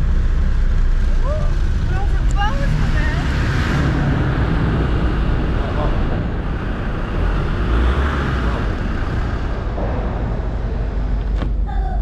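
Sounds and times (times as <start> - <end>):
ship machinery rumble: 0.0 - 12.0.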